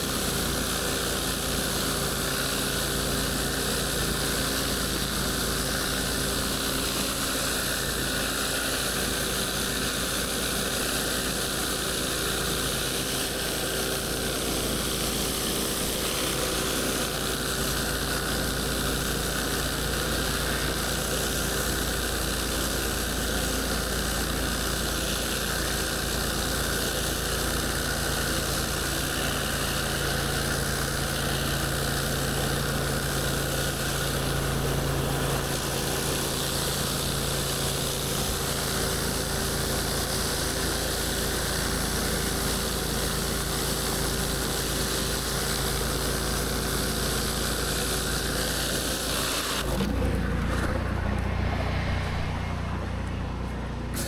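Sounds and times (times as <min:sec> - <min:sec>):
high-pressure water spraying: 0:00.0 - 0:54.0
pressure washer engine running: 0:00.0 - 0:54.0.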